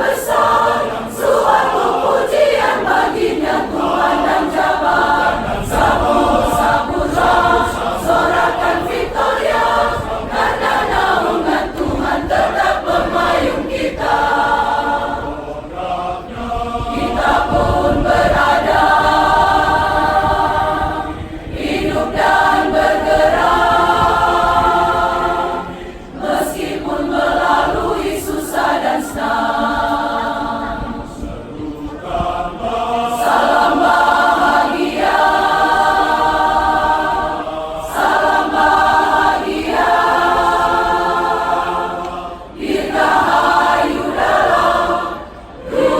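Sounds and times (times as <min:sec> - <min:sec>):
church choir singing: 0:00.0 - 0:45.9.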